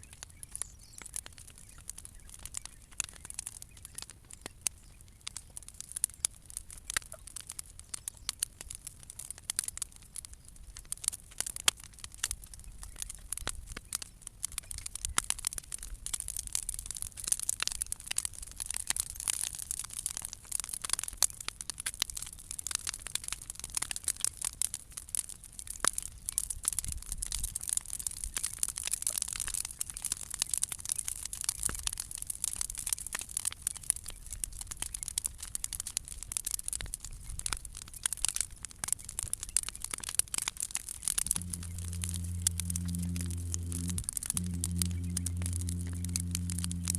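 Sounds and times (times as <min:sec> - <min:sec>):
bonfire crackling and popping: 0:00.0 - 0:46.9.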